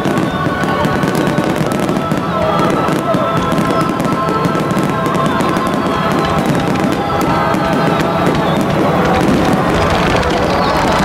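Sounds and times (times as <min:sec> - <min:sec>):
fireworks crackling: 0:00.0 - 0:11.0
music with held notes: 0:00.0 - 0:11.0.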